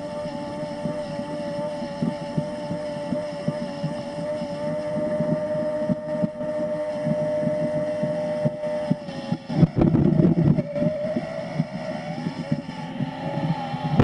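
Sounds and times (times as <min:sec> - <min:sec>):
electric drive whining: 0:00.0 - 0:14.0.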